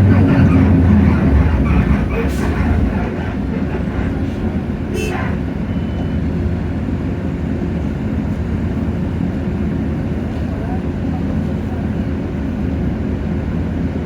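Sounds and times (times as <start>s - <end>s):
bus diesel engine rumble: 0.0s - 14.0s.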